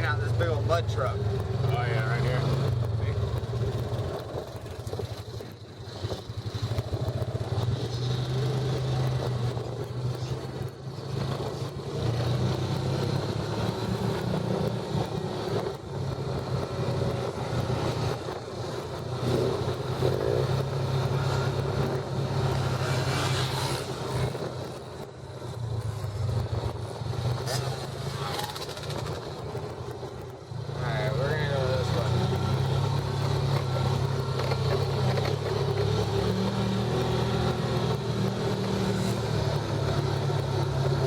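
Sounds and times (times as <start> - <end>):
vehicle engine droning: 0.0 - 41.0.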